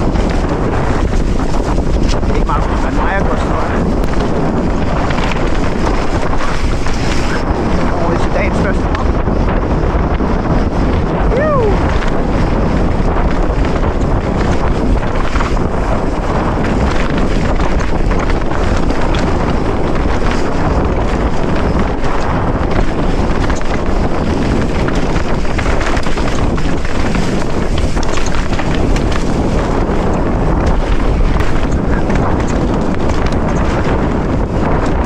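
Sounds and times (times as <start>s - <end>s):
tyres rolling over dirt and stones: 0.0s - 9.0s, 10.9s - 35.0s
bike rattling: 0.0s - 35.0s
wind buffeting microphone: 0.0s - 35.0s.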